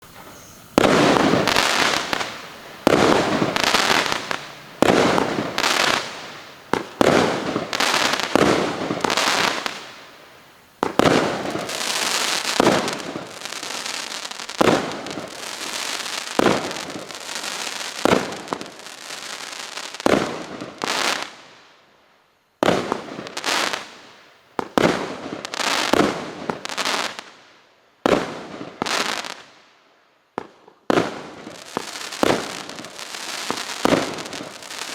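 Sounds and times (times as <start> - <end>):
firework shots crackling: 0.0 - 21.6, 22.6 - 27.4, 30.4 - 34.9.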